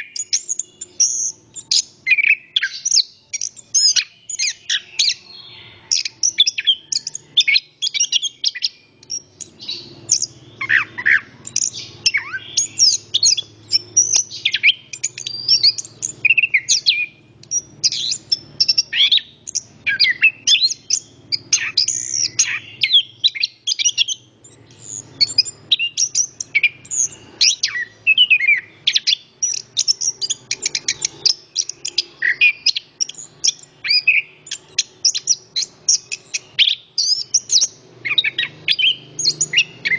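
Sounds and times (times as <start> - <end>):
thrush singing: 0.0 - 39.9.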